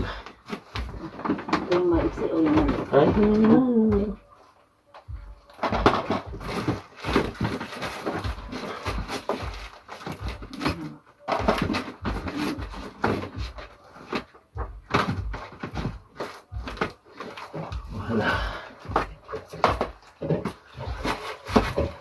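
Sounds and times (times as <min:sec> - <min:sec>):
goods packed into cardboard box: 0:00.0 - 0:22.0.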